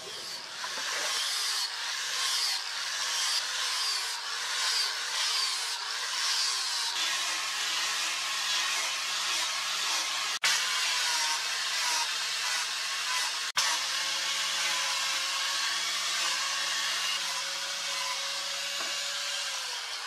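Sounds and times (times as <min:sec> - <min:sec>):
rotary sander grinding wood: 0:00.0 - 0:20.0.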